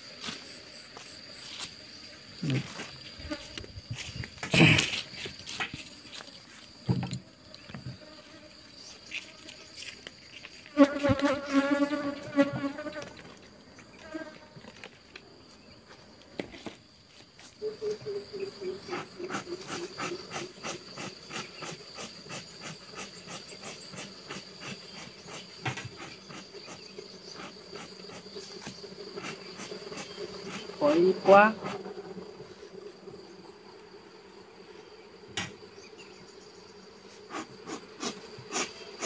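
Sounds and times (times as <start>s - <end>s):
honeybees buzzing: 0.0s - 39.0s.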